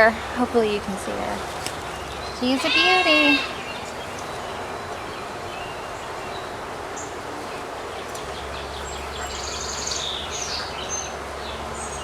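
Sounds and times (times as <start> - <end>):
honey bees buzzing: 0.0 - 12.0
small birds chirping: 0.0 - 12.0.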